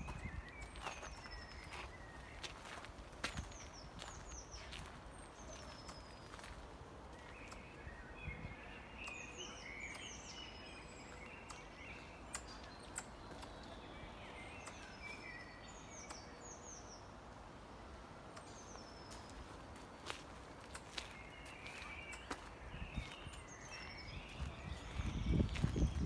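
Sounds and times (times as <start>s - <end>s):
songbirds singing: 0.0s - 26.0s.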